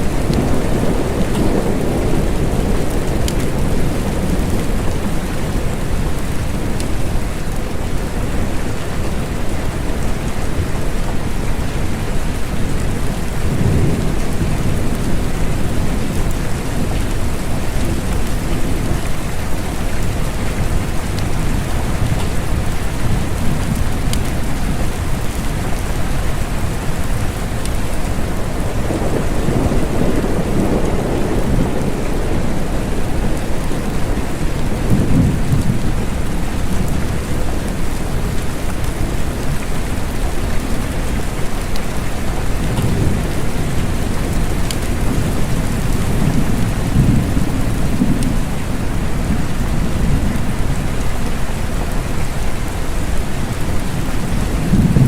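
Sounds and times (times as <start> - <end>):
low rolling thunder: 0.0 - 7.6, 12.2 - 41.7, 42.4 - 51.2, 52.6 - 55.0
steady rain: 0.0 - 55.0.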